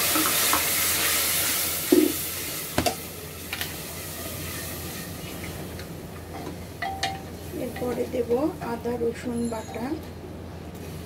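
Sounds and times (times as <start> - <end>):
masala sizzling in pot: 0.0 - 10.0, 10.6 - 11.0.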